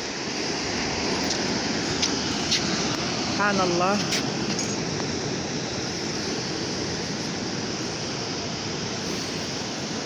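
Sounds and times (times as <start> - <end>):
sea waves washing onto shore: 0.0 - 10.0.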